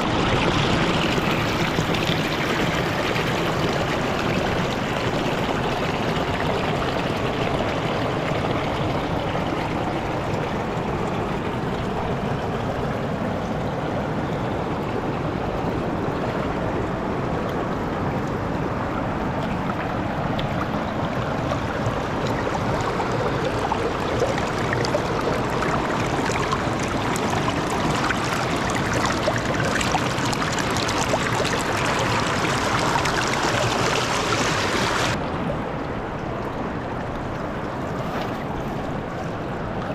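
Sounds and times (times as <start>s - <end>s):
water rushing over rocks: 0.0s - 13.4s, 15.0s - 39.9s.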